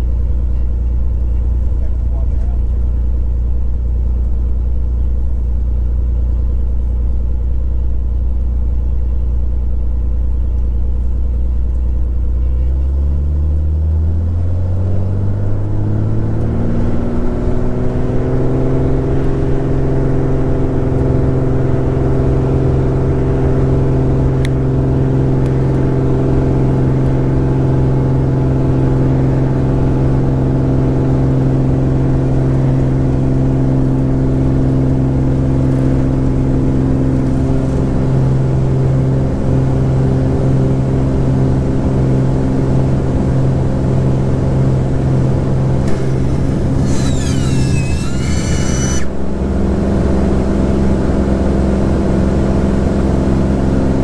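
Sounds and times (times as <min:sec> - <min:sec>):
airplane engine and propeller revving: 0:00.0 - 0:54.0.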